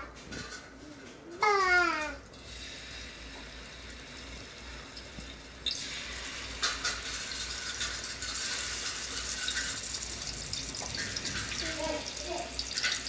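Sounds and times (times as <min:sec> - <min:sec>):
fish sizzling in hot oil: 0:02.3 - 0:13.0.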